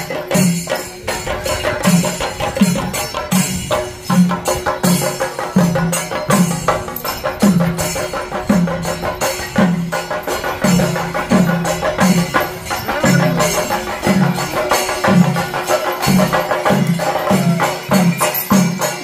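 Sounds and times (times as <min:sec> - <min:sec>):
fast dense drumming: 0:00.0 - 0:19.0
metallic cymbal clashes: 0:00.0 - 0:19.0.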